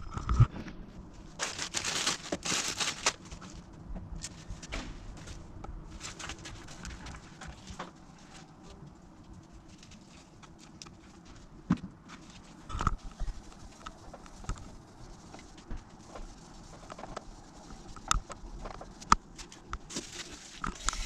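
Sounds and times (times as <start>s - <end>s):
scratchy rustling and rubbing: 0.1s - 3.7s, 5.2s - 21.0s.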